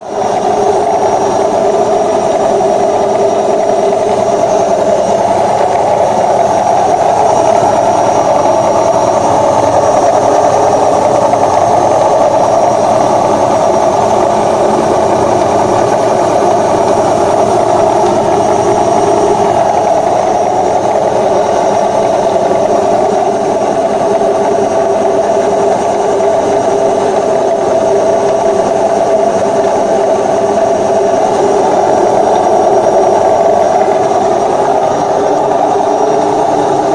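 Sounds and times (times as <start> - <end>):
washing machine spin drone: 0.0 - 36.9.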